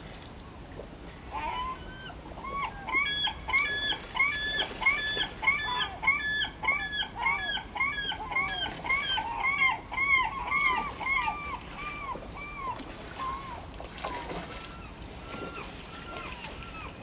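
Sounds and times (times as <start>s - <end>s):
bird calling: 1.3s - 17.0s.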